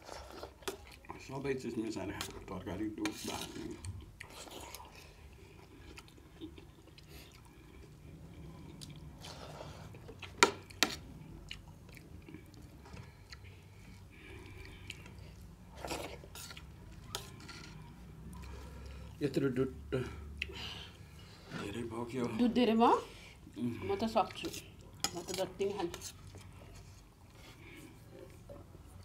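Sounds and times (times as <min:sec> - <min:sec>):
people chewing food: 0:00.0 - 0:29.0.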